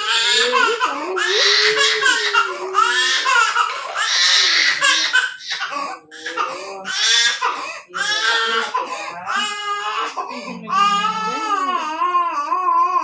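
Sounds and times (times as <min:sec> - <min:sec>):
toddler crying loudly: 0:00.0 - 0:13.0.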